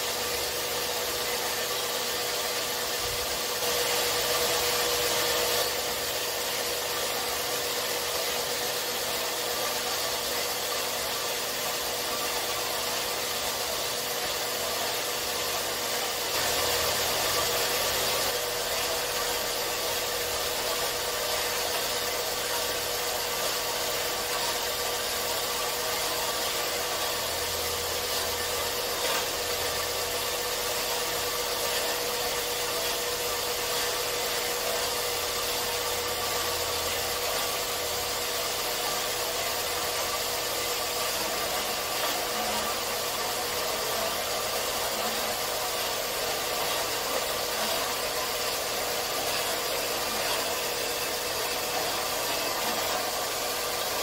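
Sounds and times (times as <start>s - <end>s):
bandsaw cutting steel tubing: 0.0s - 54.0s.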